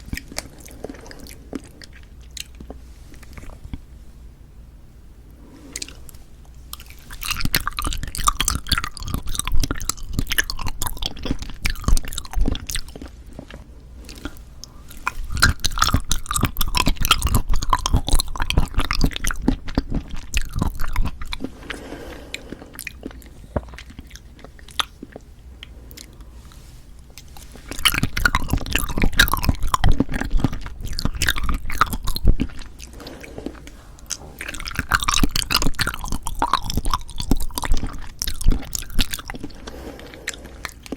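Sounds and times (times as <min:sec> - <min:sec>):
wet chewing mouth sounds: 0:00.0 - 0:03.9, 0:05.7 - 0:40.9.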